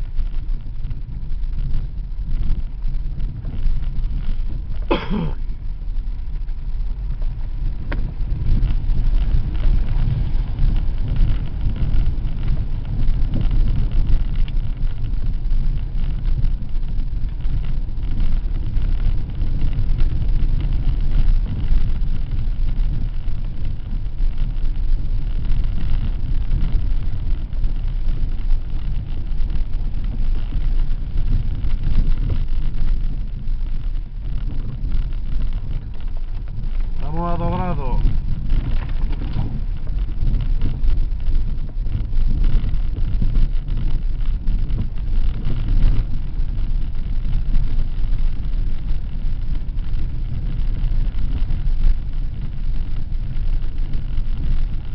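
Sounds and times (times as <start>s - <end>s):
tyres on wet dirt track: 0.0s - 54.9s
vehicle engine rumble: 0.0s - 54.9s.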